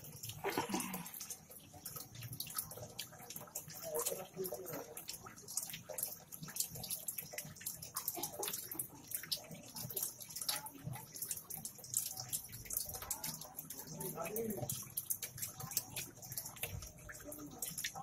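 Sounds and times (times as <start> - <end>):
aquarium water bubbling and trickling: 0.0 - 18.0
small bubbles crackling: 0.0 - 18.0.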